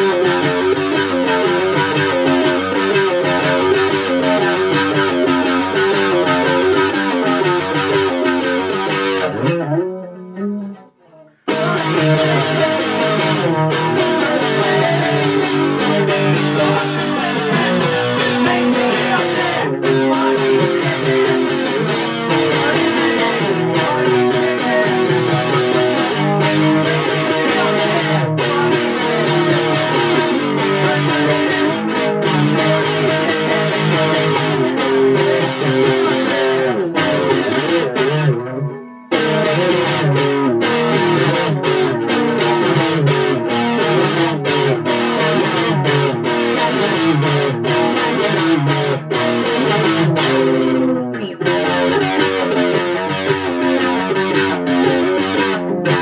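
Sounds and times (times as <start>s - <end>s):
electric guitar chords and riffs: 0.0s - 56.0s.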